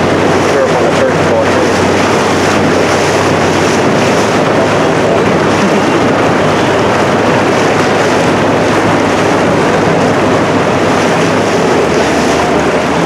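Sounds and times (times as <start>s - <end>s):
boat motor humming: 0.0s - 13.0s
water against boat hull: 0.0s - 13.0s
wind on microphone: 0.0s - 13.0s.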